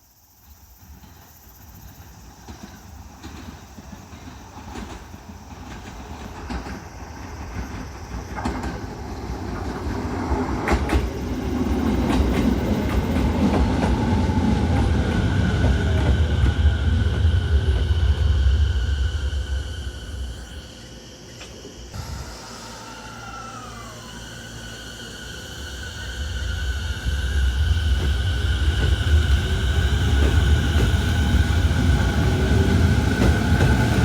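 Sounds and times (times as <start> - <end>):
train rumble: 0.2 - 34.0.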